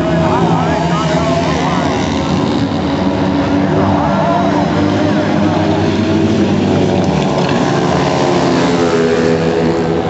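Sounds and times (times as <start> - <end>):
motorcycle engines racing: 0.0 - 10.0.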